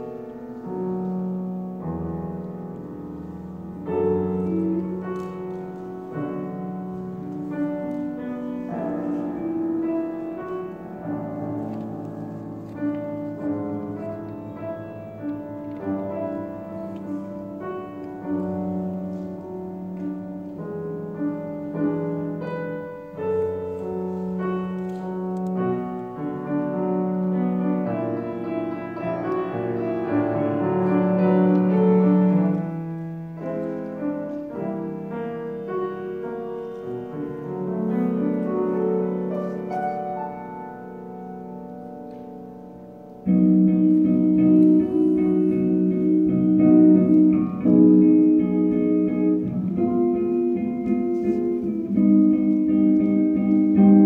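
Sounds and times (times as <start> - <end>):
grand piano: 0.0 - 54.0
slow jazz combo: 0.0 - 54.0.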